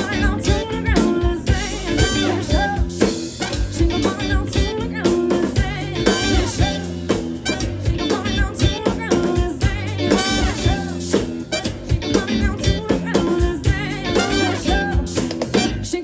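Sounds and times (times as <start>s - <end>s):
bass line: 0.0s - 16.0s
drum kit: 0.0s - 16.0s
person singing: 0.0s - 16.0s.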